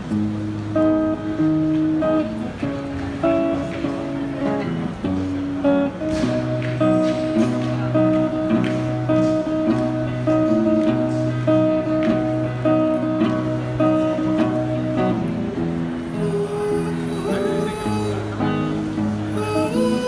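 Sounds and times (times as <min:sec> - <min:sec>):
guitar strumming chords: 0:00.0 - 0:20.0.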